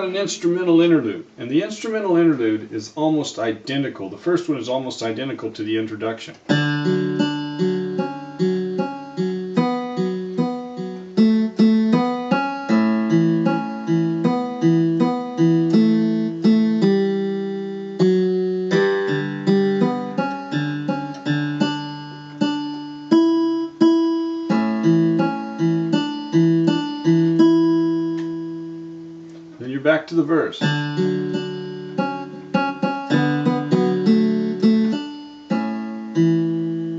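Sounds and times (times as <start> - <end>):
electronic keyboard arpeggios: 6.5 - 36.9.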